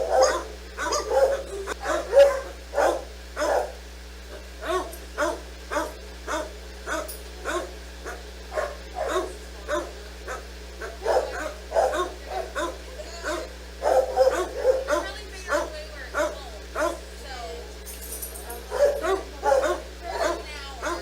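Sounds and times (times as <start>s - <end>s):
dog barking: 0.0s - 17.1s, 18.4s - 21.0s.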